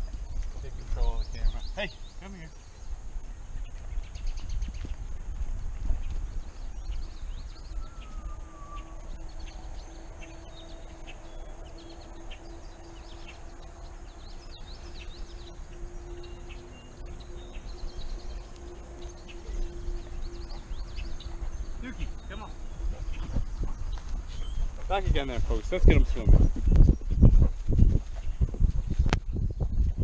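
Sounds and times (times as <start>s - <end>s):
low rumble: 0.0s - 30.0s
small birds chirping: 0.0s - 30.0s
steady low hum: 0.0s - 30.0s.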